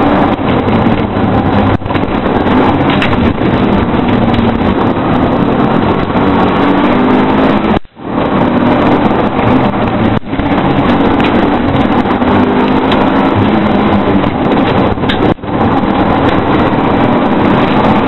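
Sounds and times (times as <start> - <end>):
car engine under full load: 0.0 - 18.0.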